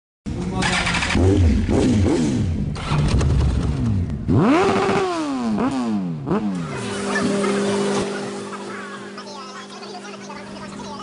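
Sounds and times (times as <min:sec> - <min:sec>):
motorcycle engine revving: 0:00.3 - 0:11.0.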